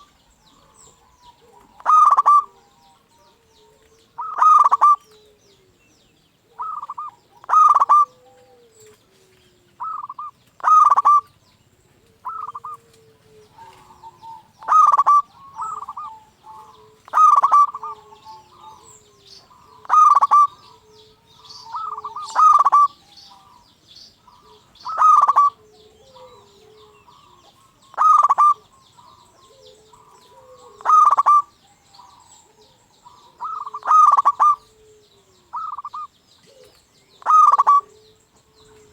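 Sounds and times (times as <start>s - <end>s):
dove cooing: 0.0s - 38.9s
small birds chirping faintly: 0.0s - 38.9s.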